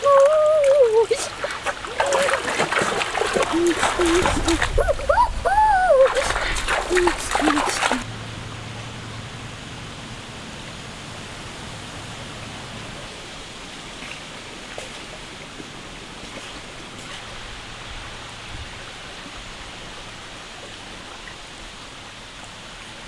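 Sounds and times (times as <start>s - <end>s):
flowing stream rushing: 0.0s - 23.0s.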